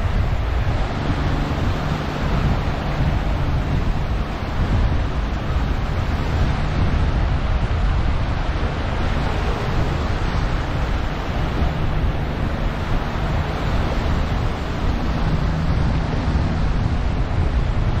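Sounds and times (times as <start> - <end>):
small waves washing on sand: 0.0 - 18.0
wind buffeting microphone: 0.0 - 18.0.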